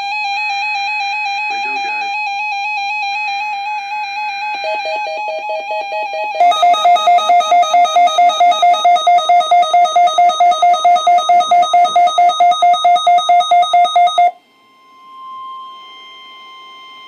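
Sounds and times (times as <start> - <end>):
pulsing beeping alarm: 0.0 - 17.0.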